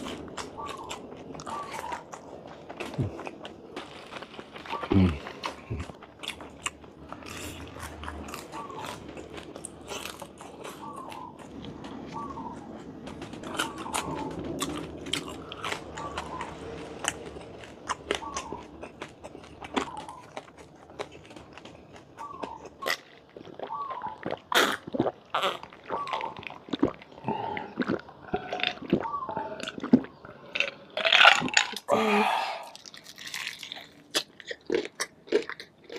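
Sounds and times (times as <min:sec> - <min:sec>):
chewing crunchy food: 0:00.0 - 0:31.9, 0:32.6 - 0:35.9.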